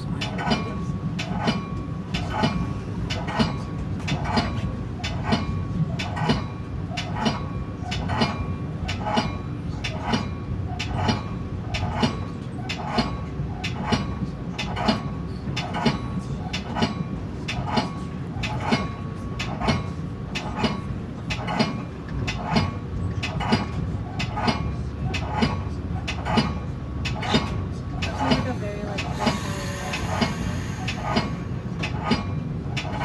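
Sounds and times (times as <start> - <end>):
train rumble: 0.0 - 33.0
train wheels knocking on rail joints: 0.0 - 33.0.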